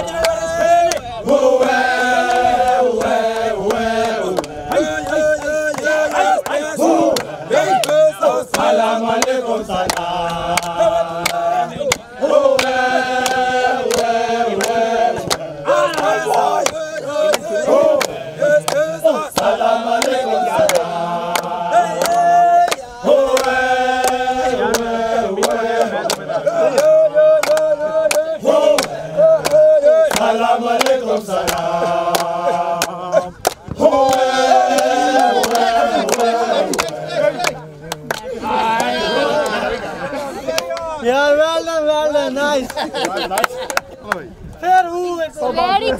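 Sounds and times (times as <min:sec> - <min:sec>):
hand clapping: 0:00.0 - 0:01.1, 0:02.2 - 0:39.6, 0:40.5 - 0:40.9, 0:42.6 - 0:44.2
men chanting together: 0:00.0 - 0:43.7.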